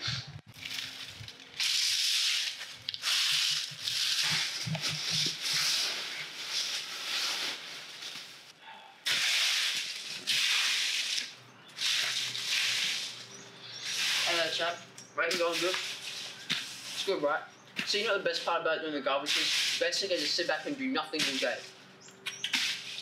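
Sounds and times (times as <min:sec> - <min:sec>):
broom brushing leaves on brick: 0:00.5 - 0:08.5, 0:09.1 - 0:21.8, 0:22.4 - 0:23.0.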